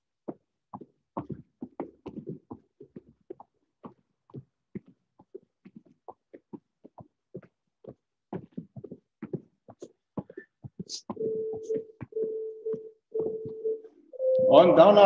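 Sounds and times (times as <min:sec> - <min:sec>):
feet thudding on gym mats: 0:00.3 - 0:13.5.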